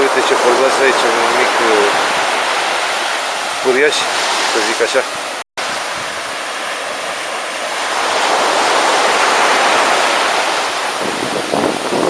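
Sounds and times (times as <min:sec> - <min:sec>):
water rushing into surf: 0:00.0 - 0:12.0.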